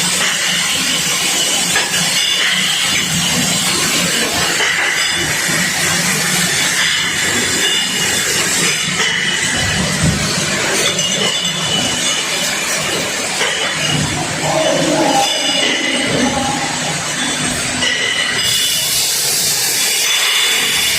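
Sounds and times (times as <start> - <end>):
bottle washing machine clatter: 0.0 - 20.9.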